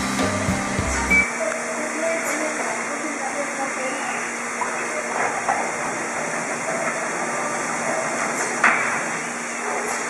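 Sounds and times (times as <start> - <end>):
milking machinery hissing: 0.0 - 10.0.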